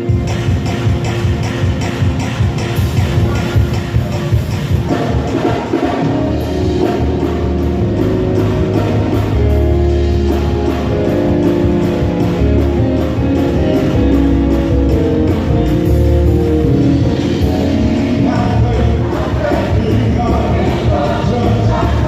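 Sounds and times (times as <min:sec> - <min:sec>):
live band instrumental music: 0:00.0 - 0:22.0.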